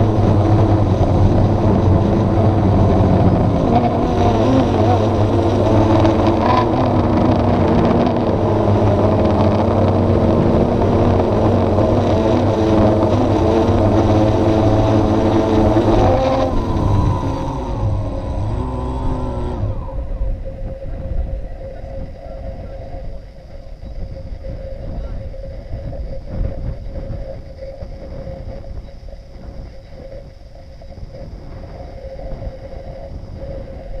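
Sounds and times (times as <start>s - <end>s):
drone propellers whining: 0.0s - 34.0s
steady mid-pitched hum: 0.0s - 34.0s
wind buffeting microphone: 0.0s - 34.0s.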